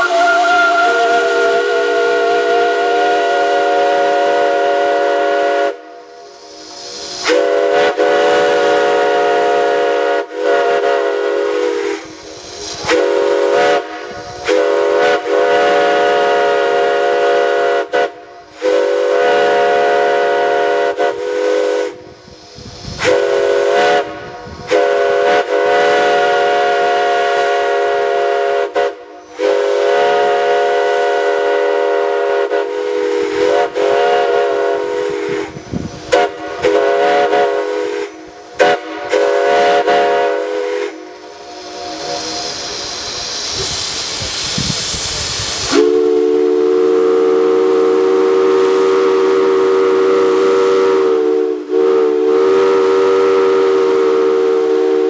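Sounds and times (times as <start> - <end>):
steam hissing: 0.0 - 55.0
steam locomotive whistle blasts: 0.0 - 55.0.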